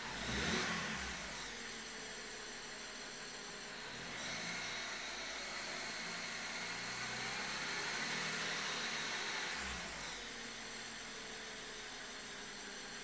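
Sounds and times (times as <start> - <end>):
car engine idling: 0.0 - 12.6
engine whine: 0.0 - 13.0.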